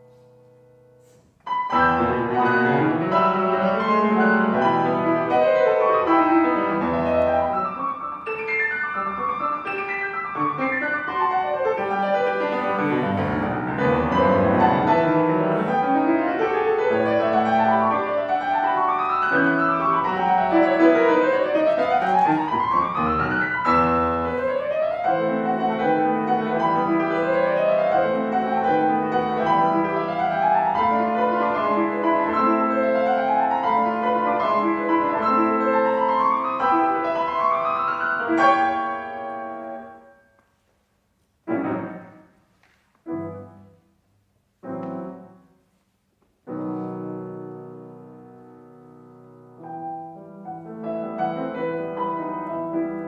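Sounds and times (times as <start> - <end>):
solo piano classical piece: 0.0 - 53.0.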